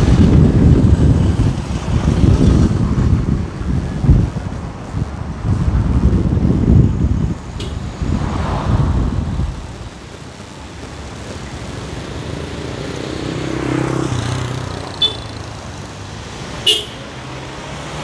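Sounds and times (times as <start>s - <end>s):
wind buffeting microphone: 0.0s - 14.8s
road traffic hum: 0.0s - 18.0s
vehicle engine humming: 0.0s - 18.0s.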